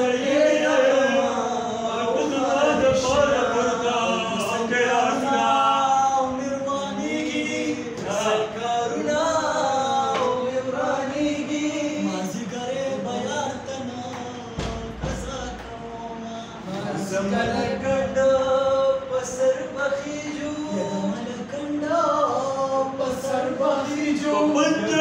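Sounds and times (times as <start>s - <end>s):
young men singing unaccompanied: 0.0s - 25.0s.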